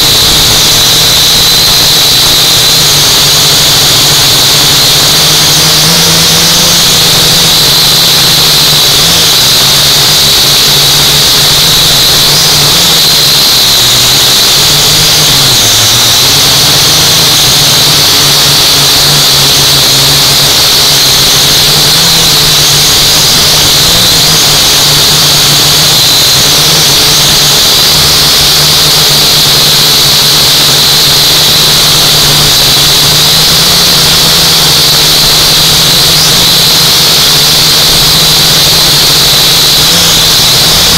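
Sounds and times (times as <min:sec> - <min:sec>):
quadcopter motors whining: 0:00.0 - 0:40.9.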